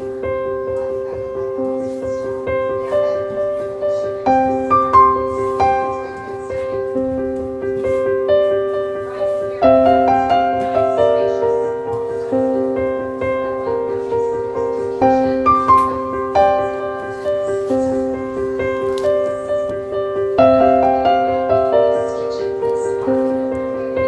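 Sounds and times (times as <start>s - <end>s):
slow gentle piano melody: 0.0s - 24.0s.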